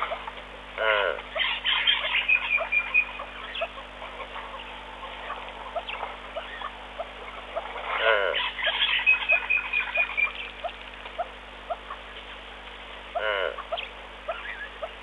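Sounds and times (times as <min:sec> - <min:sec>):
small animals chirping: 0:00.0 - 0:12.1, 0:13.1 - 0:15.0
frogs calling: 0:00.0 - 0:12.3, 0:13.0 - 0:15.0
steady low hum: 0:00.0 - 0:15.0.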